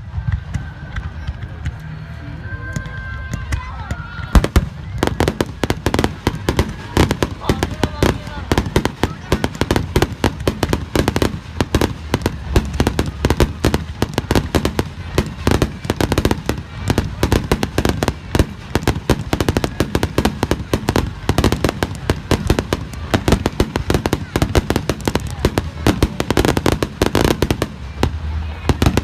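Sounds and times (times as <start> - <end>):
fireworks barrage: 3.5 - 29.0.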